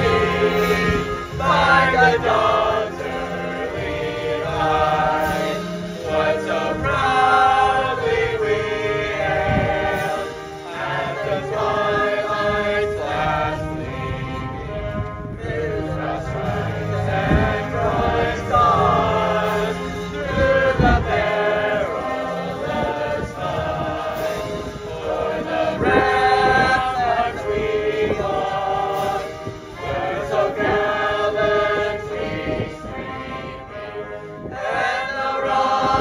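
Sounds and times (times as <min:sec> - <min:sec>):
choir singing in parts: 0:00.0 - 0:36.0.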